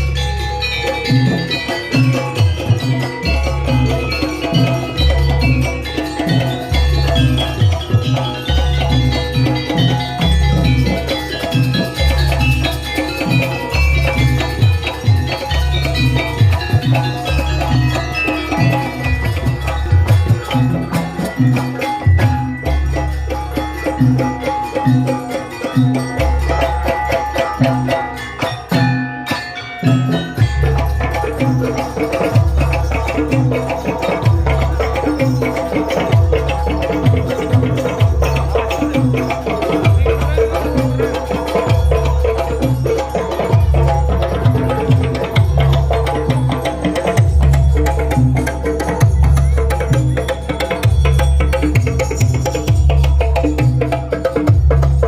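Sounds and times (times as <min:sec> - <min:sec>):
gamelan music: 0:00.0 - 0:55.0
tuned percussion: 0:00.0 - 0:55.0.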